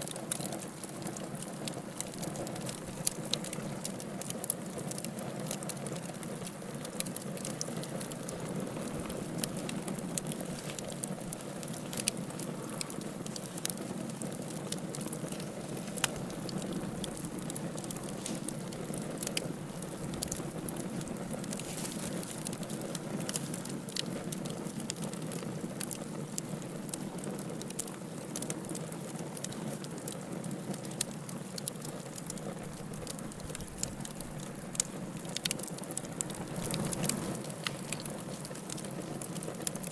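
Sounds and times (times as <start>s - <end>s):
fire crackling and popping: 0.0s - 39.9s
low rush of flame: 0.1s - 28.9s, 30.8s - 39.9s.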